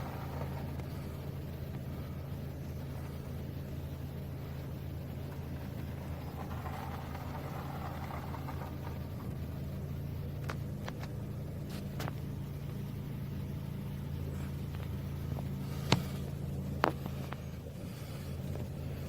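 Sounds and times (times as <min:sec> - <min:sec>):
car engine humming: 0:00.0 - 0:19.0.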